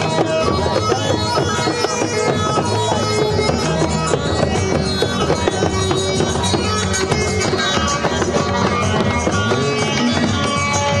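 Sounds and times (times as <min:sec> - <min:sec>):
held melody line: 0:00.0 - 0:11.0
street drum band: 0:00.0 - 0:11.0.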